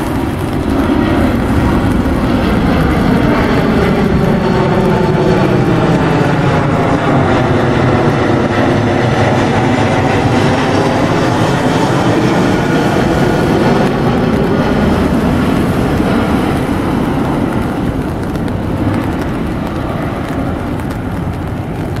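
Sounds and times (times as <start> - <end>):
jet plane passing overhead: 0.0 - 22.0.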